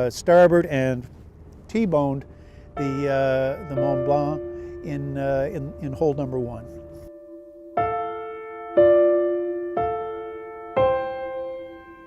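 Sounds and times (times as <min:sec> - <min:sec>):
slow piano chords: 0:02.2 - 0:12.0.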